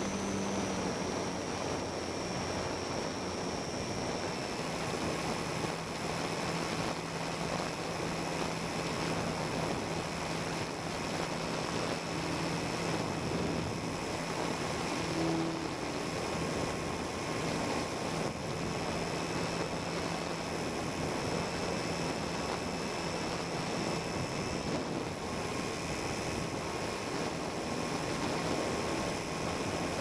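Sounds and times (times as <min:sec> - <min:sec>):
model aircraft motor droning: 0:00.0 - 0:30.0.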